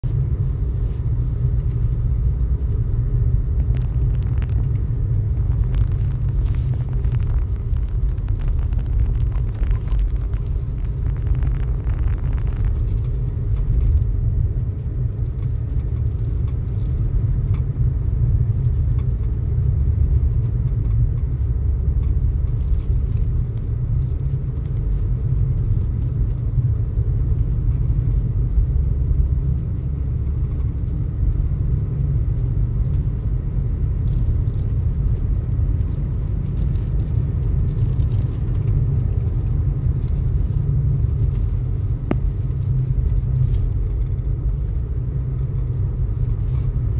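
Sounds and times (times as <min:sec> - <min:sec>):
car cabin engine and tyre rumble: 0:00.0 - 0:46.9.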